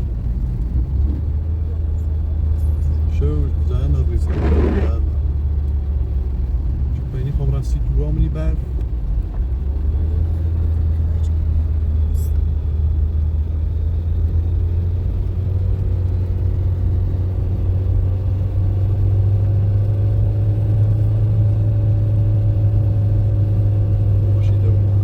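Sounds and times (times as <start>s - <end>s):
car engine drone: 0.0s - 25.0s
road noise: 0.0s - 25.0s.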